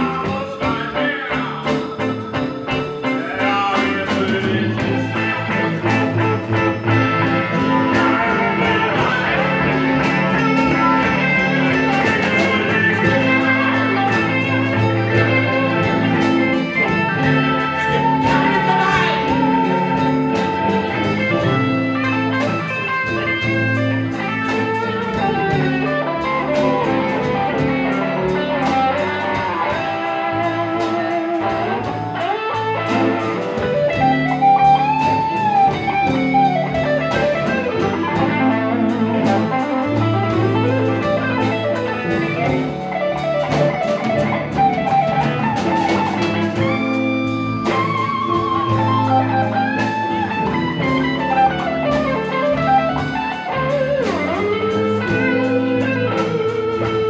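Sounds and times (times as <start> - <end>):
blues band playing: 0.0 - 57.0
electric guitar solo: 0.0 - 57.0.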